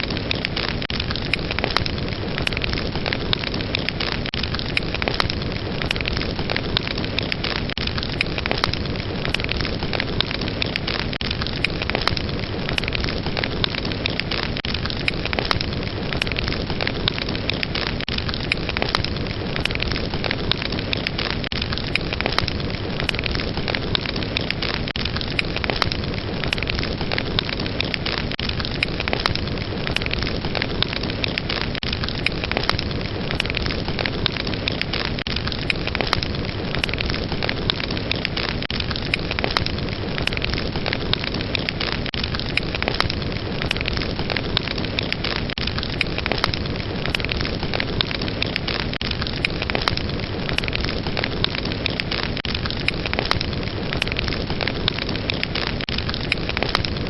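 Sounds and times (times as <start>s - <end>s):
crackles and pops of flames: 0.0s - 57.0s.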